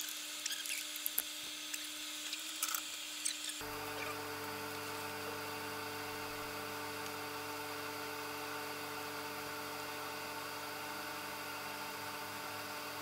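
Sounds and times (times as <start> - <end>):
vacuum pump whirring: 0.0 - 13.0.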